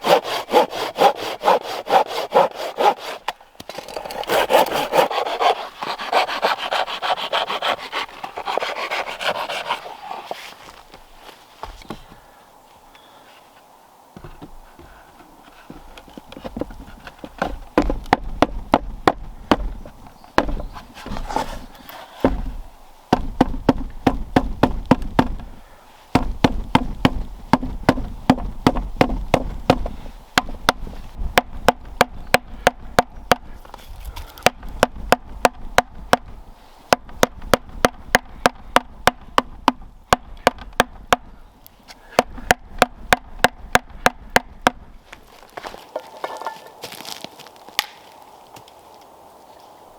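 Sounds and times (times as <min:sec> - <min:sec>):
hand tool chopping wood: 0:00.0 - 0:09.8, 0:15.7 - 0:25.5, 0:26.1 - 0:36.3, 0:36.9 - 0:41.3, 0:42.0 - 0:48.1.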